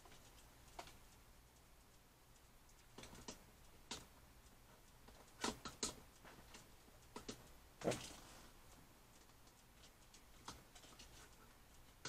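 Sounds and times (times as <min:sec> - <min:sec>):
faint clicks and light taps: 0:00.0 - 0:12.0.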